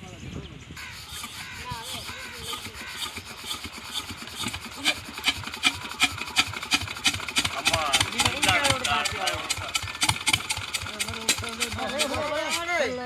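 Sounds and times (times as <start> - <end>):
diesel engine starting: 1.0 - 13.0.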